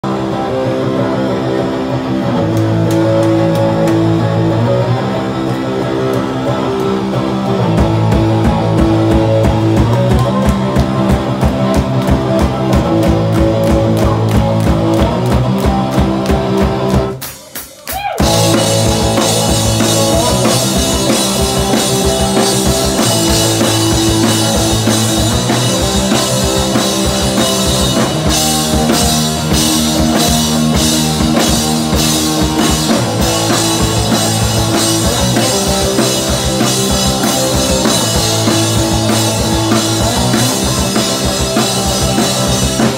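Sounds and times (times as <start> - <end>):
distorted electric guitar: 0.0 - 17.4, 18.0 - 42.9
driving drum kit: 0.0 - 42.9.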